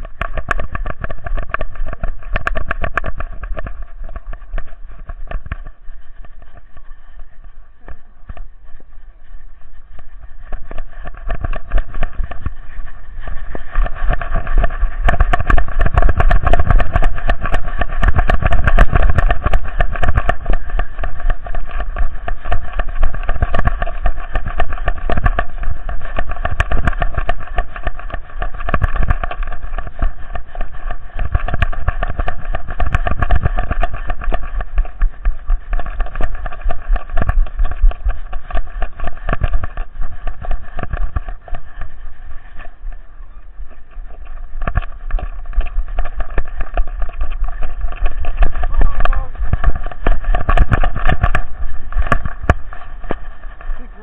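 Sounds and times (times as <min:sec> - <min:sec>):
camera handling rumble: 0:00.0 - 0:08.8, 0:09.8 - 0:54.0
rapid knocks and clatter: 0:00.0 - 0:54.0.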